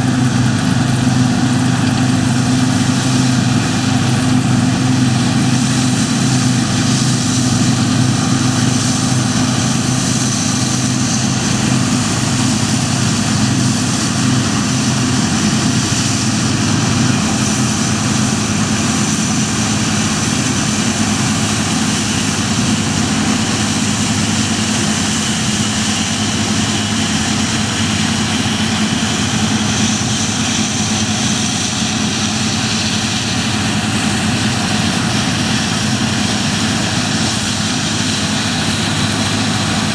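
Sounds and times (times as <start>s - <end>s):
combine harvester engine drone: 0.0s - 39.9s
wide rushing noise: 0.0s - 39.9s.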